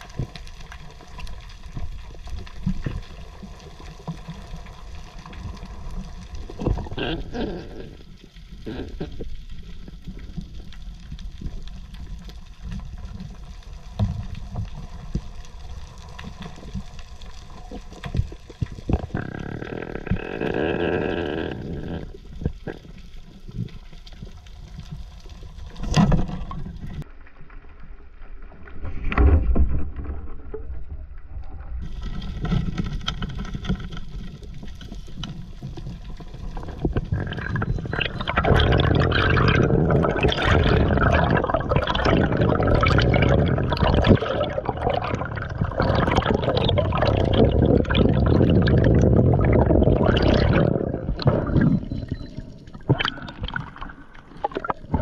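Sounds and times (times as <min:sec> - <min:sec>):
water sloshing and bubbling: 0:00.0 - 0:55.0.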